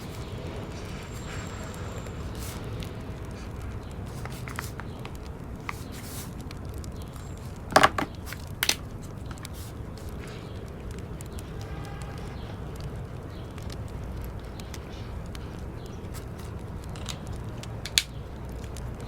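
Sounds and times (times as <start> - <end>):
steady low rumble: 0.0 - 19.0
wood fire crackling: 0.0 - 19.0.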